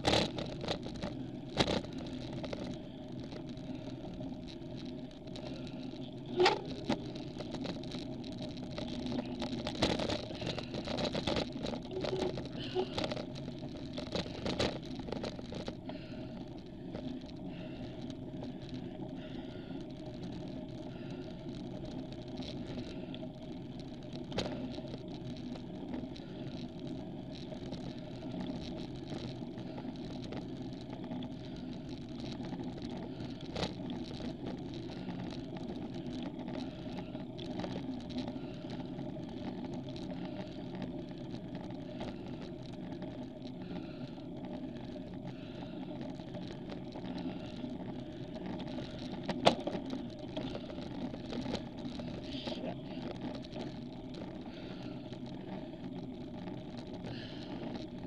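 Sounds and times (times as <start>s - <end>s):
bicycle tyres and drivetrain hum: 0.0s - 58.0s.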